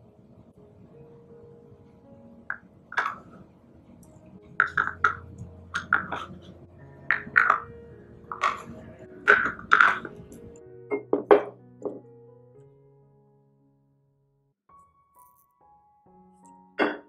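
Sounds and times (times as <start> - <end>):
faint background music: 0.0 - 13.4, 14.7 - 17.0.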